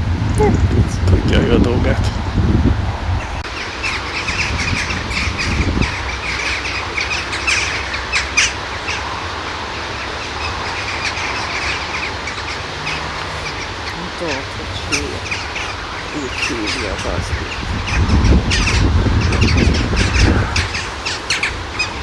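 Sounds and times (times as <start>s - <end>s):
low steady rumble: 0.0s - 22.0s
small birds chirping and squawking: 2.7s - 22.0s.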